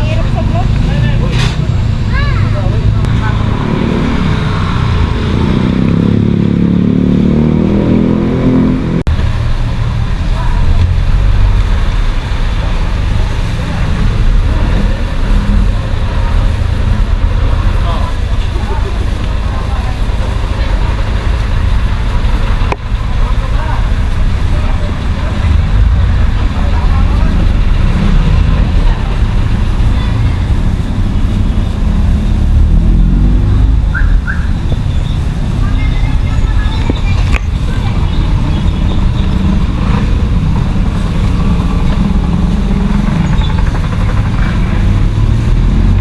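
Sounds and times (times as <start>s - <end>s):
low rumble of road traffic: 0.0s - 46.0s
vehicle engine running: 0.0s - 46.0s.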